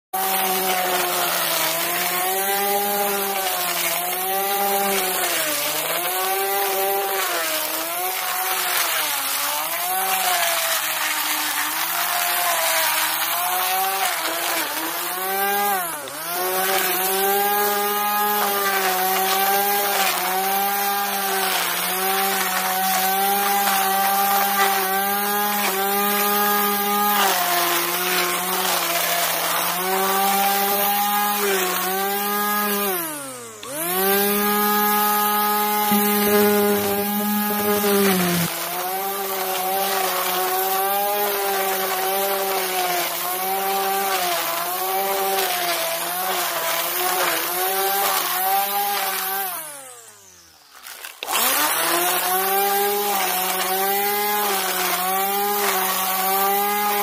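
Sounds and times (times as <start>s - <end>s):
electric string trimmer cutting grass: 0.0s - 57.0s.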